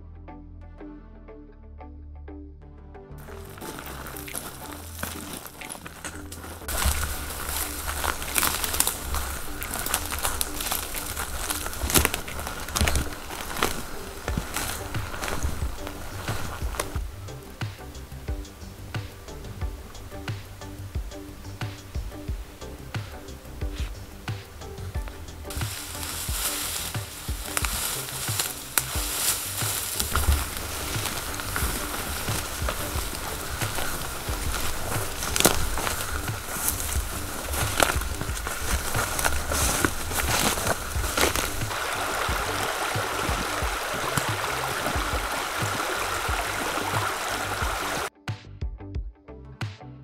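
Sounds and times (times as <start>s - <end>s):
creek water rushing over stones: 3.2s - 48.1s
loud steady hiss: 3.2s - 48.1s
soft low thumps: 3.2s - 49.2s
music with low beat: 3.2s - 50.0s.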